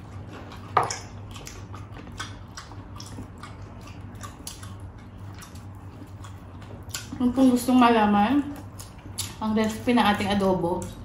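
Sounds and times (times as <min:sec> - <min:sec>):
wet chewing and lip-smacking: 0:00.0 - 0:07.7, 0:08.4 - 0:09.8.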